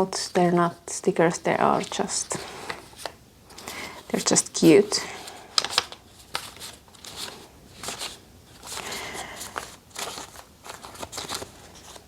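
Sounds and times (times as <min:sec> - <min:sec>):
paper rustling and crinkling: 0:01.8 - 0:12.0.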